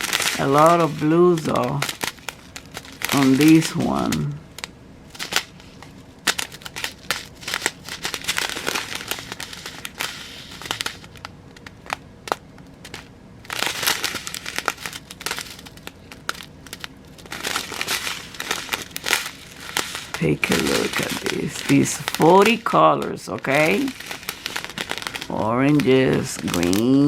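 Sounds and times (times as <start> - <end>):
plastic bags crinkling: 0.0 - 27.0.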